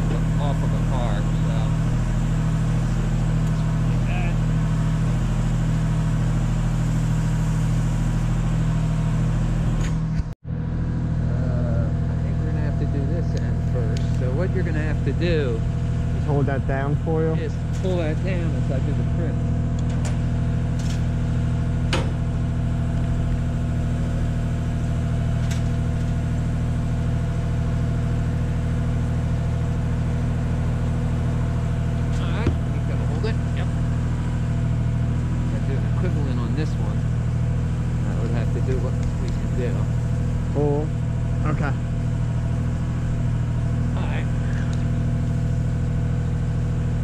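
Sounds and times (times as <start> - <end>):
aerial lift engine droning: 0.0 - 47.0.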